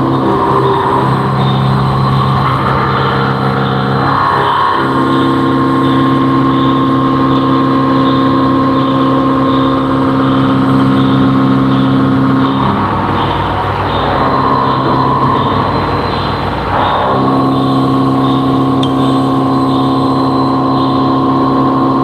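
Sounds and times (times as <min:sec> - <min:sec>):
constant machine hum: 0:00.0 - 0:22.0
machining centre spindle whine: 0:00.0 - 0:22.0
rough machining noise: 0:00.0 - 0:22.0.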